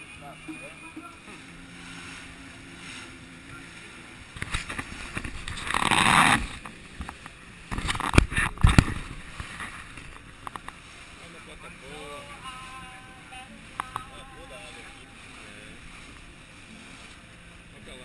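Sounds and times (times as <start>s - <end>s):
wash of spray: 0.0s - 18.0s
water rushing past boat hull: 0.0s - 18.0s.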